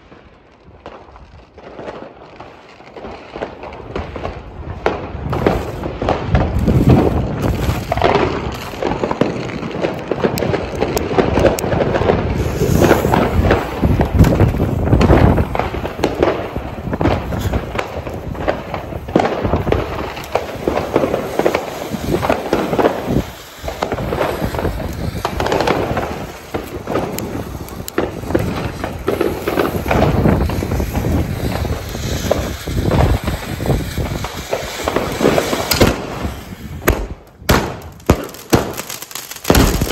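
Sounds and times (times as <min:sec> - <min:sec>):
firework crackling: 0:00.0 - 0:39.9
firework fountain spraying sparks: 0:00.0 - 0:39.9
sharp firework bangs: 0:00.8 - 0:39.9.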